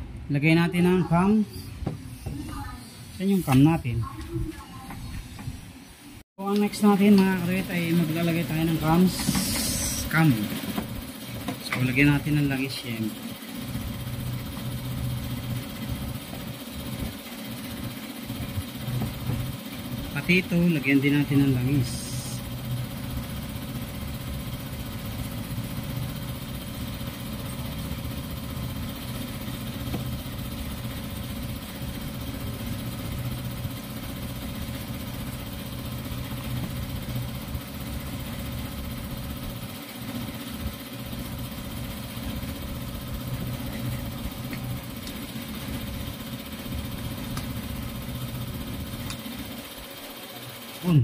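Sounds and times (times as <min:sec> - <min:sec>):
engine idling hum: 0:06.7 - 0:50.0.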